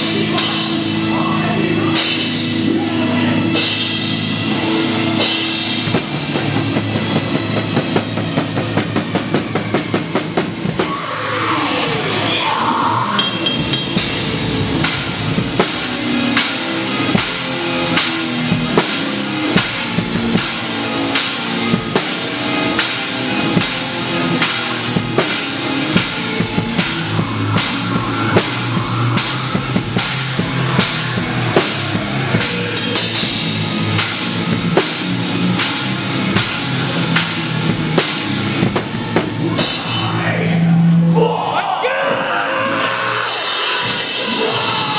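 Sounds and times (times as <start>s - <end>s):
drums hitting hard: 0.0s - 44.9s
heavy rock band playing: 0.0s - 44.9s.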